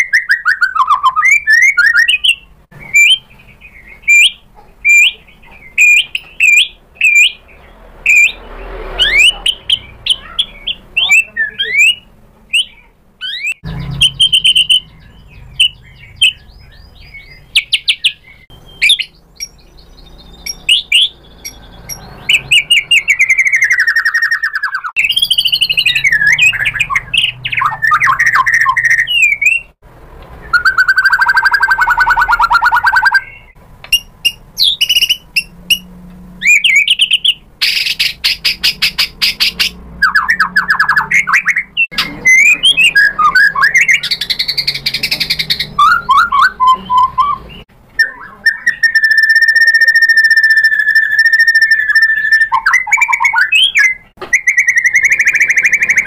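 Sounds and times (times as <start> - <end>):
songbird singing whistles and trills: 0.0 - 29.8, 30.4 - 56.0.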